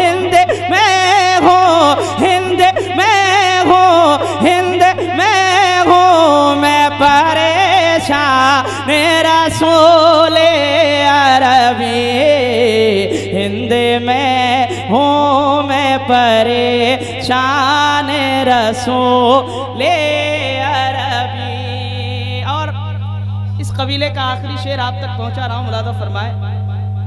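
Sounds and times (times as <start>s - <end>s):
man singing into microphone: 0.0s - 26.8s.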